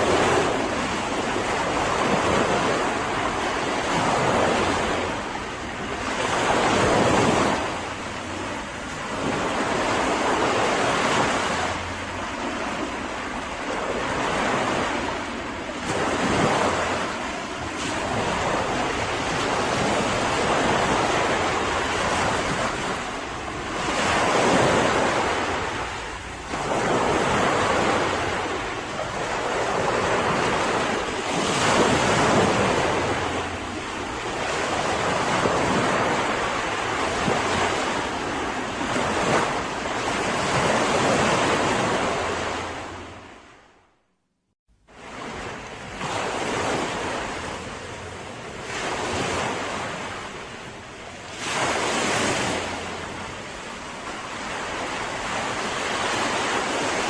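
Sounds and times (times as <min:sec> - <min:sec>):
sea waves breaking on beach: 0:00.0 - 0:43.7, 0:44.9 - 0:57.0.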